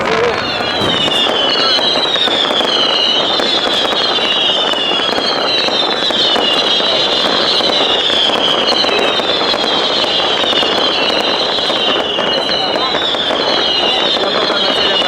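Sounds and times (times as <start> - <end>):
fireworks crackling and popping: 0.0 - 15.0
wavering high whistle: 0.0 - 15.0.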